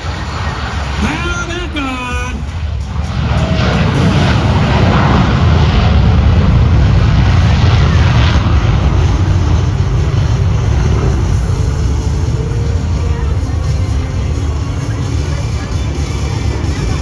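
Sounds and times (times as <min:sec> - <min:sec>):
jet aircraft flying by low: 0:00.0 - 0:17.0.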